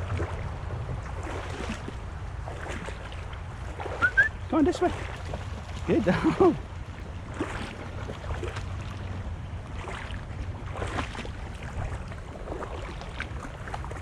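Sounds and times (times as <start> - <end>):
creek water running: 0.0 - 14.0
splashes from wading: 0.0 - 14.0
wind rumble on microphone: 0.0 - 14.0.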